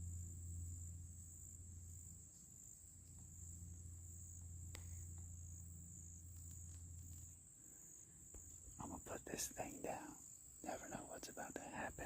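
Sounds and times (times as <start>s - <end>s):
low hum: 0.0s - 10.0s
crickets trilling: 0.0s - 12.0s.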